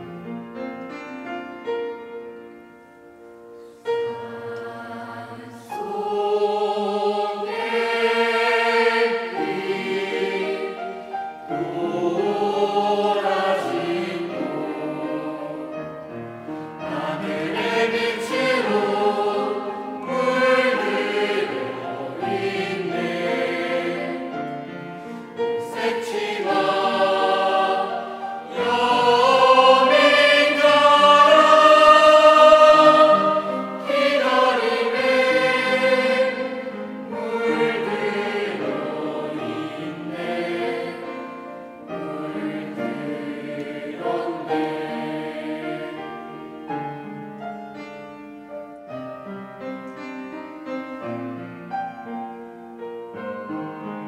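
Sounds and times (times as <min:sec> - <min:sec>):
choir singing: 0:03.6 - 0:47.4.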